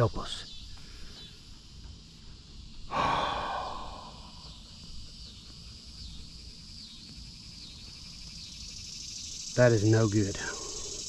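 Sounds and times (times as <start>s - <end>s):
insects chorus pulsing: 0.0s - 11.0s.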